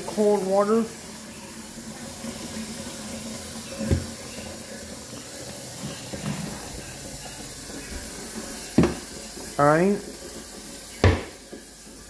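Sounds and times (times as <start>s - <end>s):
faucet filling plastic pitcher: 0.0s - 12.0s.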